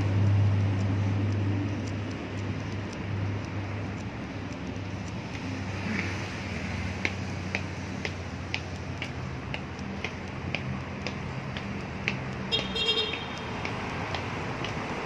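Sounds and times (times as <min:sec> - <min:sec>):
footsteps on hard walkway: 0:00.0 - 0:15.0.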